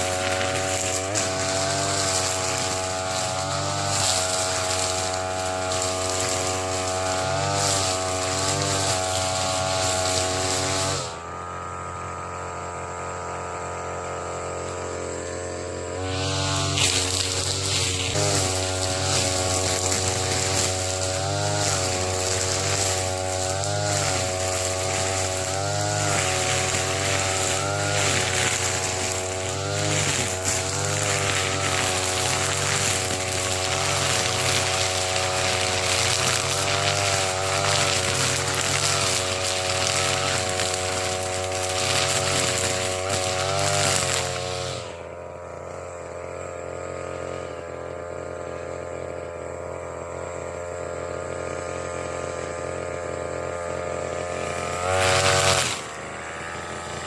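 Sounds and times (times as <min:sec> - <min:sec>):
brush cutter engine under load: 0:00.0 - 0:57.0
grass cutting noise: 0:00.0 - 0:57.0.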